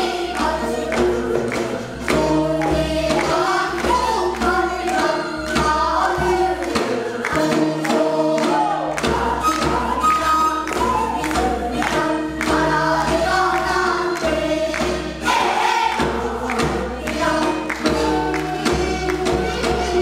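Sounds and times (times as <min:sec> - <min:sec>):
children singing a folk song: 0:00.0 - 0:20.0
drum strokes: 0:00.0 - 0:20.0.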